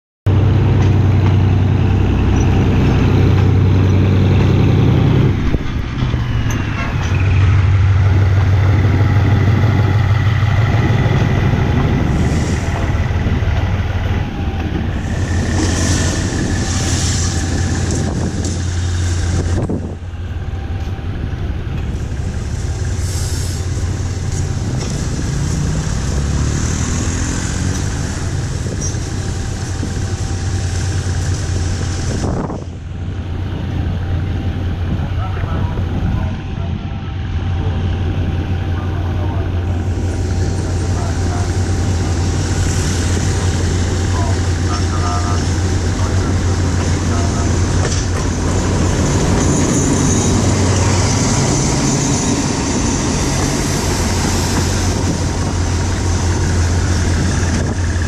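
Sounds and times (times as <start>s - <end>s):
locomotive engine drone: 0.3s - 58.0s.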